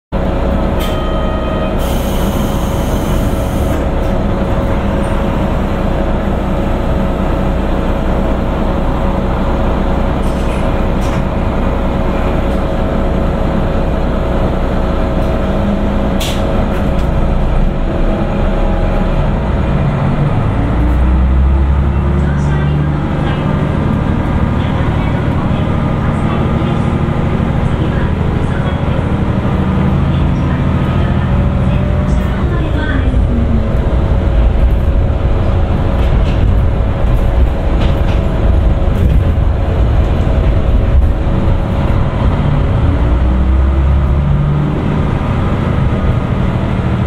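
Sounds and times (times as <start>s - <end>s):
diesel railcar engine droning: 0.1s - 47.0s.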